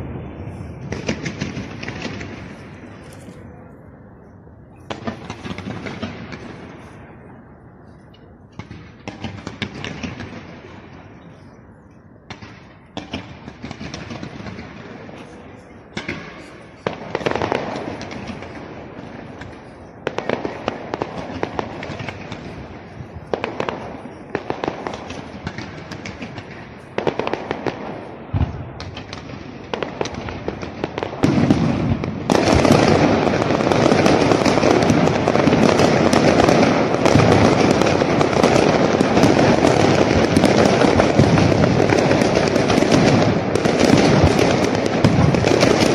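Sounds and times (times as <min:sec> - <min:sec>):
fireworks bangs with crackling: 0:00.0 - 0:03.5, 0:04.8 - 0:07.4, 0:08.5 - 0:11.6, 0:12.2 - 0:45.9.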